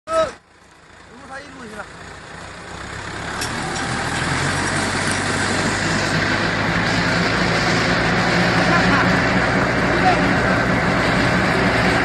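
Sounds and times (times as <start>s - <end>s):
baler machinery noise: 0.1s - 12.0s
tractor engine hum: 0.1s - 12.0s.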